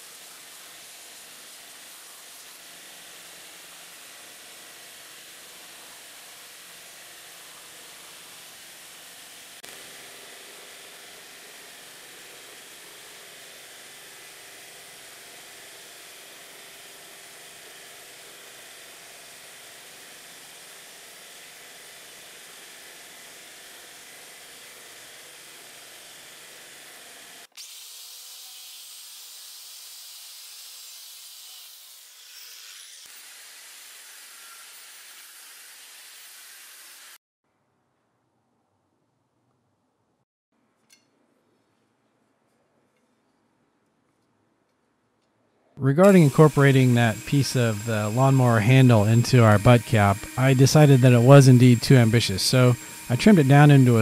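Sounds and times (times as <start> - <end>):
belt grinder sanding wood: 0.0 - 37.2, 45.9 - 54.0
cut-off wheel cutting steel: 0.0 - 37.2, 45.9 - 54.0.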